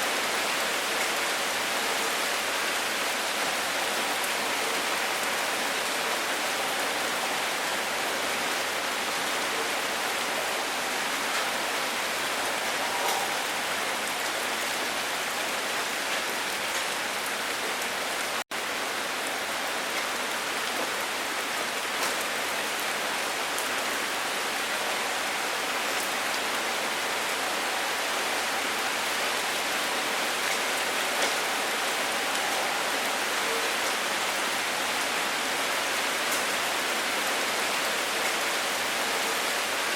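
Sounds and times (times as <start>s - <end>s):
dense rain hissing: 0.0s - 39.9s.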